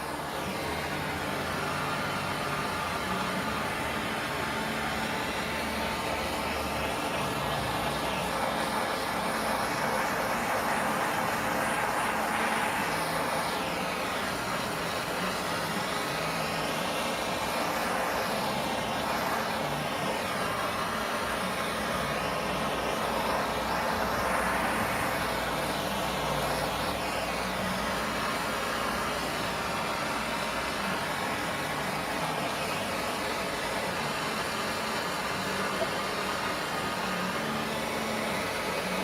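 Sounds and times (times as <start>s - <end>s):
gas torch flame hissing: 0.0s - 39.0s.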